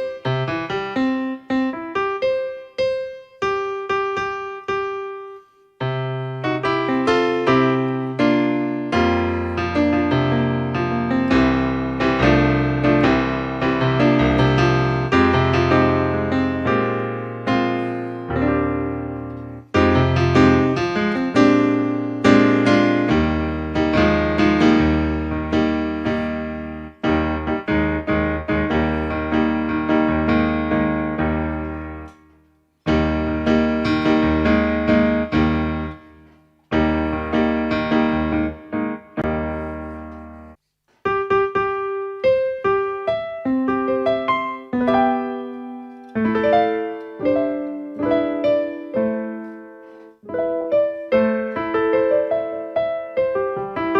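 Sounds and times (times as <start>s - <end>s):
keyboard piano chords and bass: 0.0s - 53.9s.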